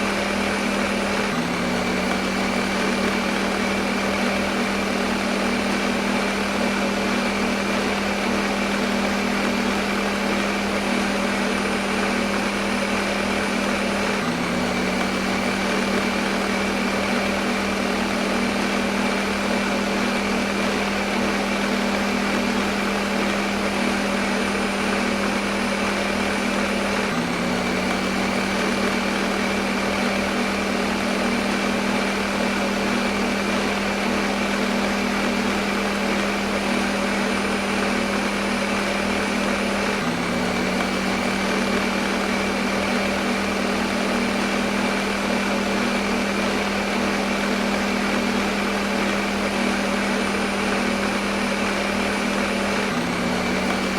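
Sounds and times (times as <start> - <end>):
blender motor humming: 0.0 - 53.9.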